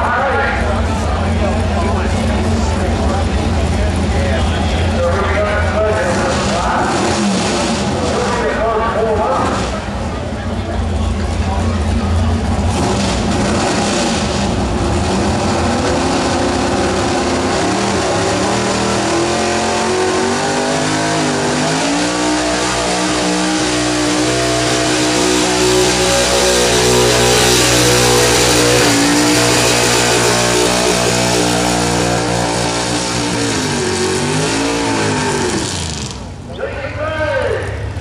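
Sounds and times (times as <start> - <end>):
truck engine at full throttle: 0.0 - 36.8.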